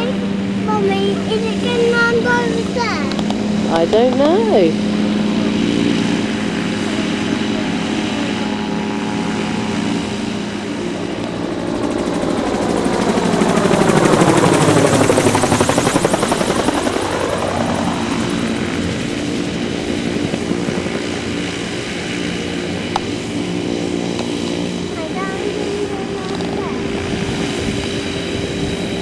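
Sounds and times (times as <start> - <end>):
gyroplane engine and propeller: 0.0 - 29.0.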